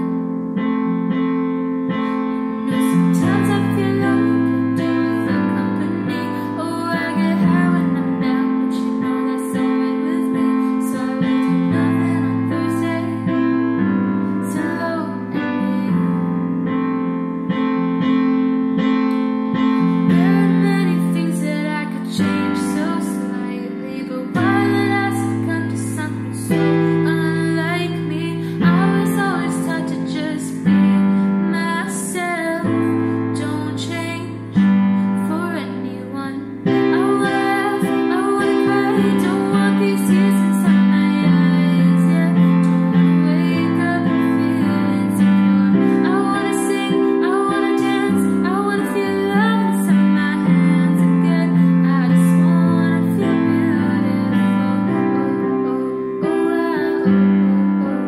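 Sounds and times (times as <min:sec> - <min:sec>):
woman singing: 0:00.0 - 0:01.3, 0:01.9 - 0:18.3, 0:19.0 - 0:58.0
piano chords: 0:00.0 - 0:58.0.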